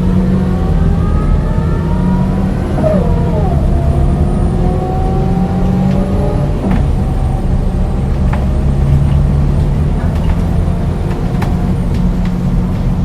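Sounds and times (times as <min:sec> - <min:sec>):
automatic gearbox shifting up: 0:00.0 - 0:13.0
diesel bus engine accelerating: 0:00.0 - 0:13.0.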